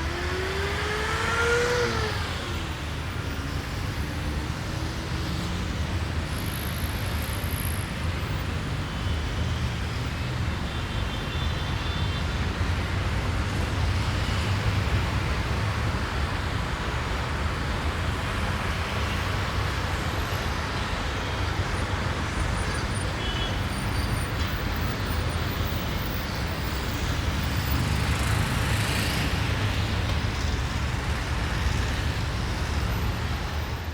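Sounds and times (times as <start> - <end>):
passing cars: 0.0 - 10.7, 12.4 - 33.9.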